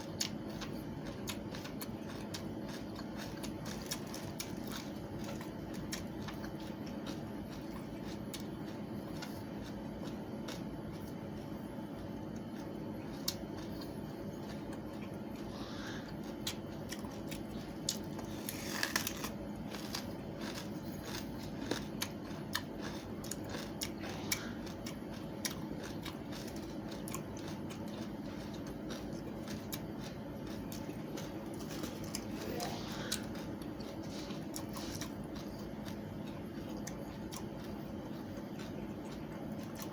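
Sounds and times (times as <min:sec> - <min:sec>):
watermelon rind crunching: 0:00.0 - 0:11.2, 0:12.4 - 0:39.9
steady low hum: 0:00.0 - 0:39.9.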